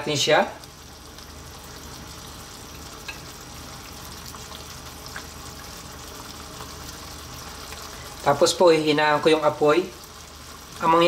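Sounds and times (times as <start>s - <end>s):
sauce sizzling in a frying pan: 0.0s - 11.0s.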